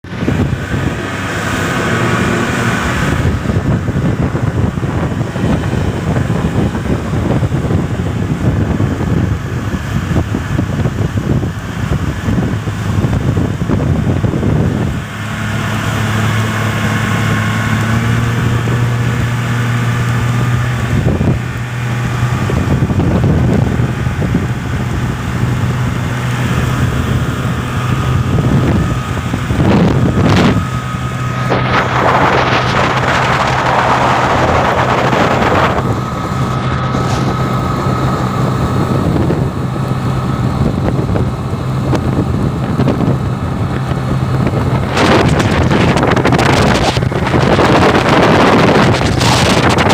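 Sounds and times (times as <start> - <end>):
boat engine running: 0.0 - 49.9
wind buffeting microphone: 0.0 - 49.9.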